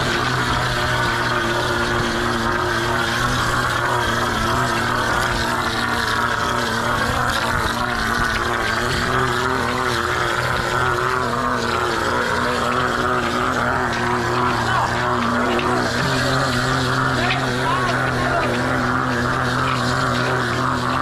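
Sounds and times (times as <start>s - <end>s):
plaster pump engine droning: 0.0s - 21.0s.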